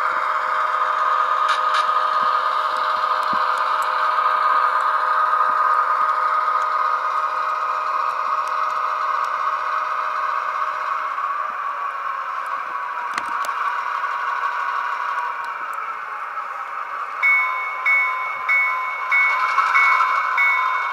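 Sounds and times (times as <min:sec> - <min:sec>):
model train clicking on track: 0:00.0 - 0:16.0, 0:16.8 - 0:20.9
diesel engine drone from speaker: 0:00.0 - 0:19.0.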